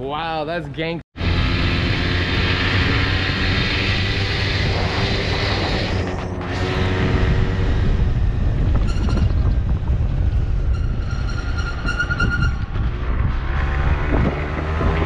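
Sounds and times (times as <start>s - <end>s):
high-pitched squeal: 1.2s - 13.4s
scooter engine and road rumble: 1.2s - 15.0s
wind buffeting microphone: 2.3s - 15.0s.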